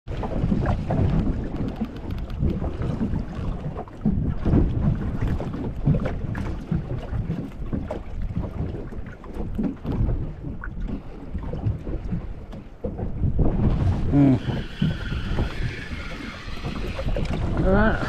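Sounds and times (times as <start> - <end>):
water slapping boat hull: 0.1 - 18.0
wind buffeting microphone: 0.1 - 18.0.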